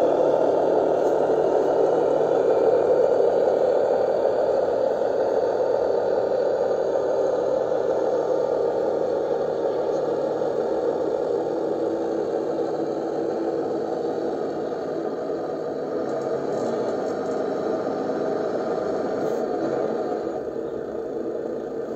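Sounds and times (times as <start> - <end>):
model truck running with rattle: 0.0 - 21.9.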